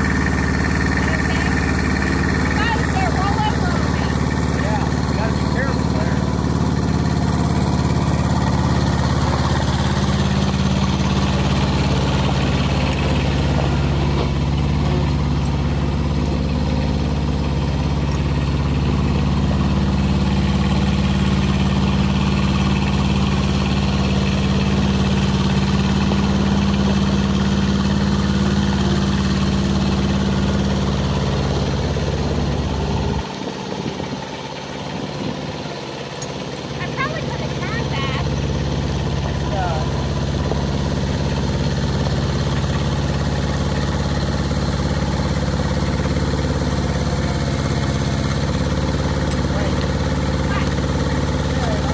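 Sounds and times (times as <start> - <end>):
engine idling: 0.0 - 51.9.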